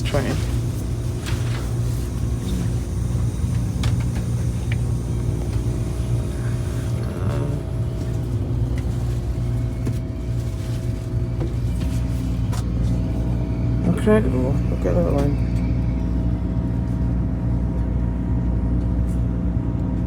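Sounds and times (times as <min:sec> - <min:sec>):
train carriage rumble: 0:00.0 - 0:20.0.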